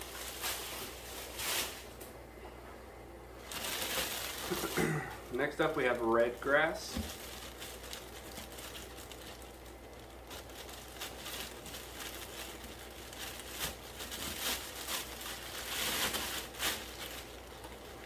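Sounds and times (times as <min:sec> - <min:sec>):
plastic bags crinkling: 0:00.0 - 0:02.0, 0:03.4 - 0:18.0.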